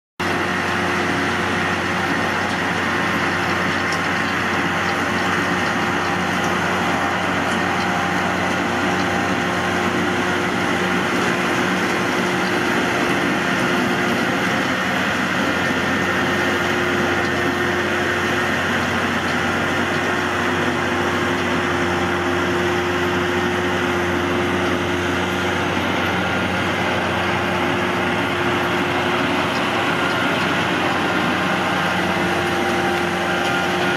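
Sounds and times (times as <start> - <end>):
tractor engine droning: 0.2 - 33.9.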